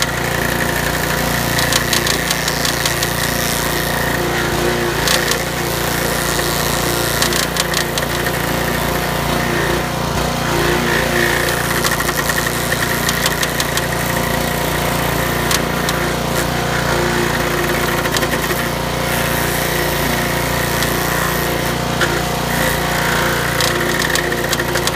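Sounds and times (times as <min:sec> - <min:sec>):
cutter wheel grinding wood: 0:00.0 - 0:24.9
gas engine running under load: 0:00.0 - 0:24.9.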